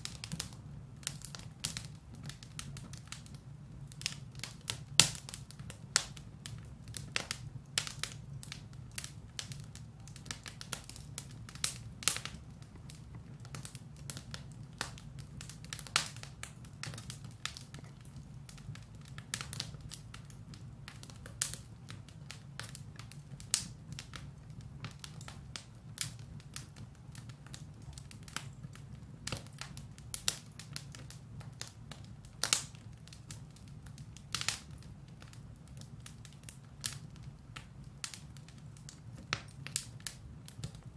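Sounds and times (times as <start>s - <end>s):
firewood crackling and popping: 0.0s - 40.9s
low rumble of flames: 0.0s - 40.9s.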